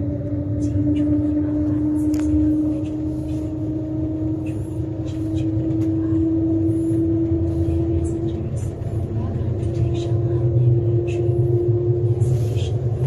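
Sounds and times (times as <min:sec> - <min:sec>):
train cabin rumble: 0:00.0 - 0:13.0.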